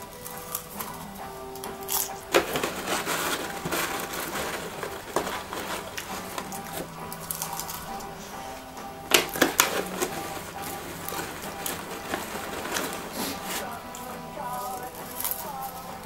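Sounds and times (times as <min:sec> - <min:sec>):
popcorn bag crinkling: 0:00.0 - 0:16.0
popcorn being chewed: 0:00.0 - 0:16.0.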